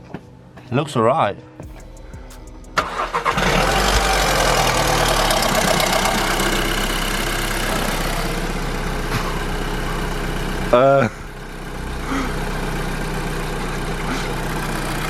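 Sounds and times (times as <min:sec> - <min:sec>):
car engine cranking: 0:01.6 - 0:15.0
car engine idling: 0:01.6 - 0:15.0.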